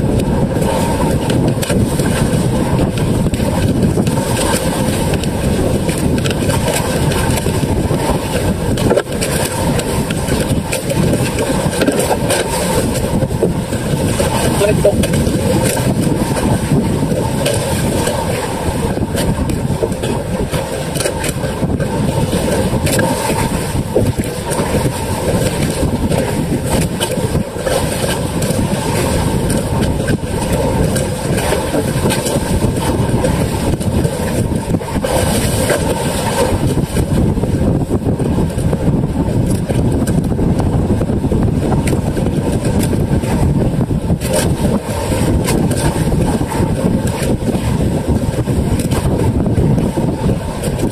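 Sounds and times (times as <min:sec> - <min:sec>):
boat engine running: 0:00.0 - 0:50.9
choppy water rushing: 0:00.0 - 0:50.9
wind buffeting microphone: 0:00.0 - 0:50.9.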